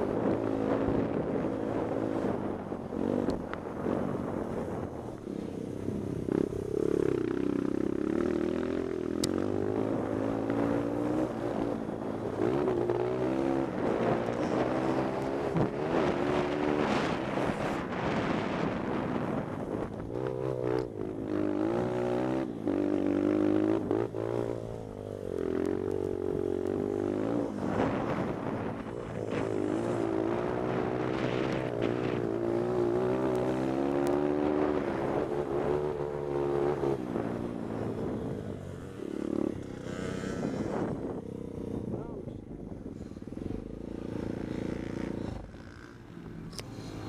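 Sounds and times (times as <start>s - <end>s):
motorbike engine revving: 5.9s - 47.0s.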